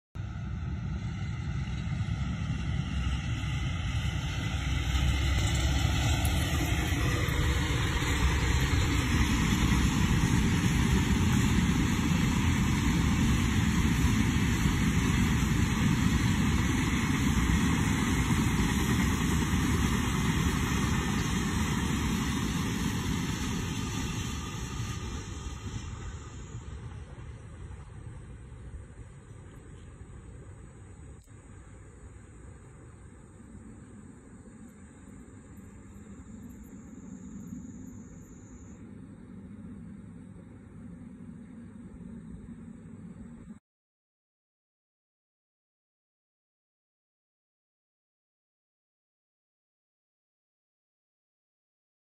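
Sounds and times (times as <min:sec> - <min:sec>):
freight train rumbling past: 0:00.2 - 0:43.6.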